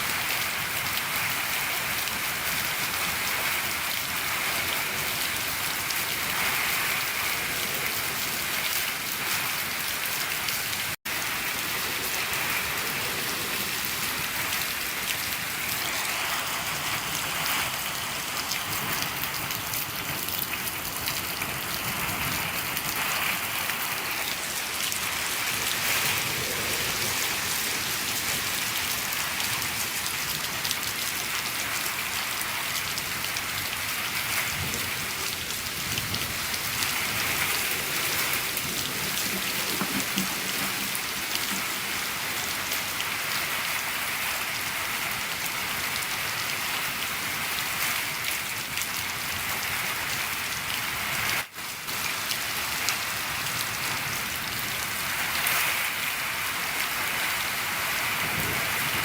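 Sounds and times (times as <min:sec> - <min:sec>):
rain falling on a shed: 0:00.0 - 0:59.0.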